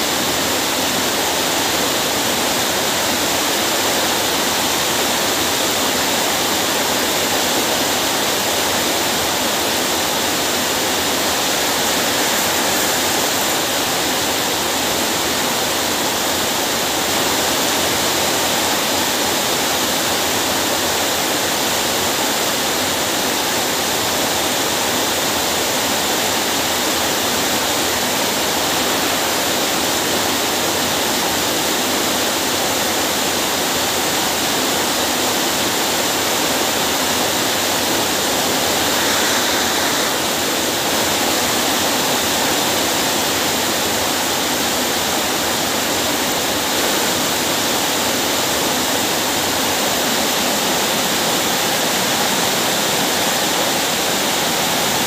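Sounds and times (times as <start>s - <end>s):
heavy rain on concrete and leaves: 0.0s - 55.0s.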